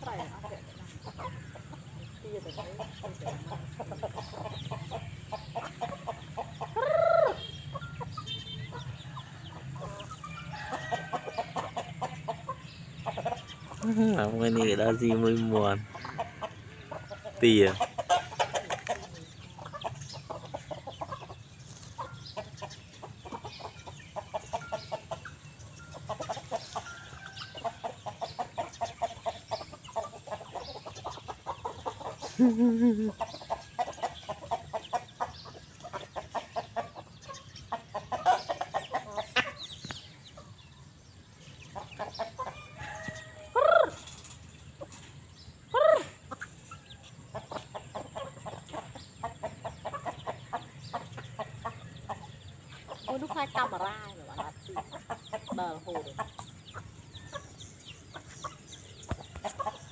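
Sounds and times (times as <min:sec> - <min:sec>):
chickens clucking: 0:00.0 - 0:59.9
loud chicken calls: 0:02.6 - 0:40.5, 0:41.7 - 0:57.5.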